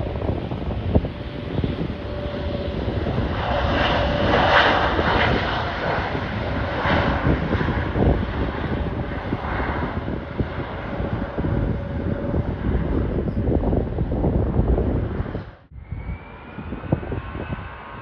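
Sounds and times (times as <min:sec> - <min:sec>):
jet engines rushing past: 0:00.0 - 0:18.0
wind buffeting microphone: 0:00.0 - 0:18.0.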